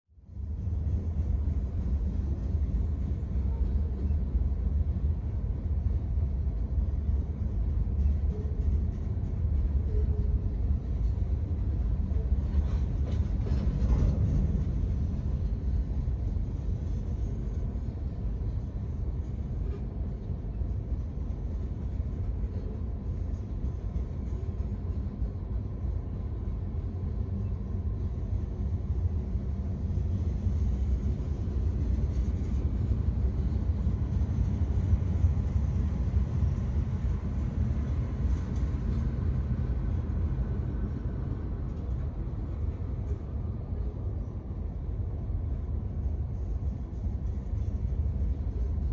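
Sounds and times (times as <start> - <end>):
freight train rumbling past: 0.2 - 48.9.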